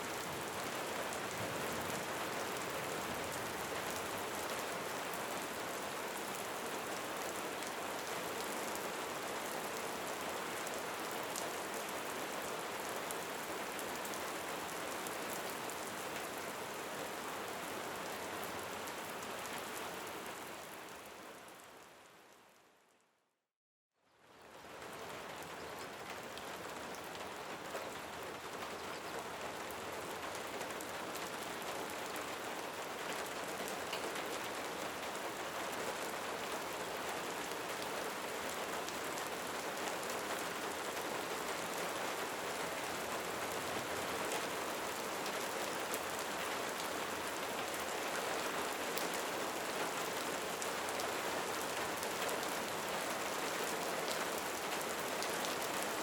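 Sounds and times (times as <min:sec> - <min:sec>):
steady rain hiss: 0:00.0 - 0:22.8, 0:24.3 - 0:56.0.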